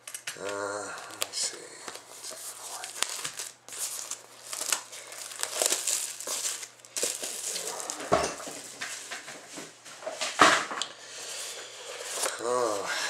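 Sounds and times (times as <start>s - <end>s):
plastic wrap crackling: 0.0s - 9.4s, 11.3s - 12.8s.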